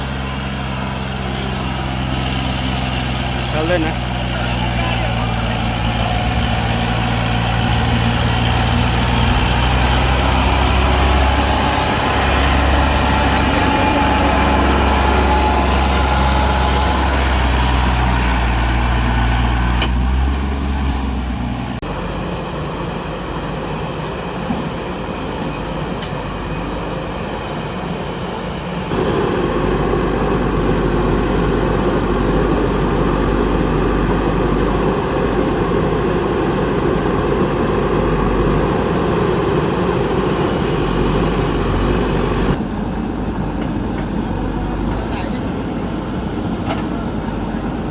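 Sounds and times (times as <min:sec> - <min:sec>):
heavy diesel engines running: 0:00.0 - 0:47.9.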